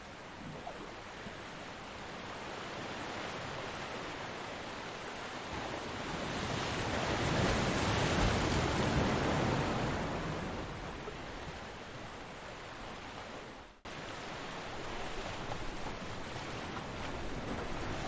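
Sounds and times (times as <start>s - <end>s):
ocean surf on beach: 1.1s - 18.0s.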